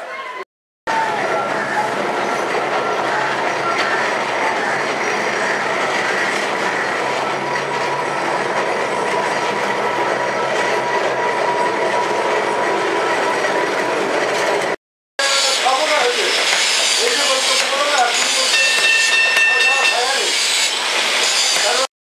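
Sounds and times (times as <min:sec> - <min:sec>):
tram rattling along track: 0:00.9 - 0:21.9.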